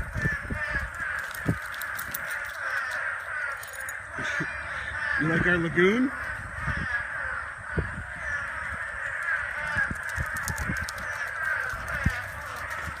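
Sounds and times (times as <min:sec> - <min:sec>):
chorus of animal calls: 0:00.0 - 0:13.0.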